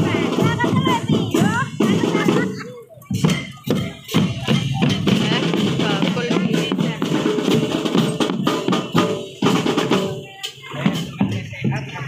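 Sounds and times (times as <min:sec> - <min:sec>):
snare and bass drums marching: 0:00.0 - 0:12.0
bell lyres and pianikas: 0:00.2 - 0:12.0.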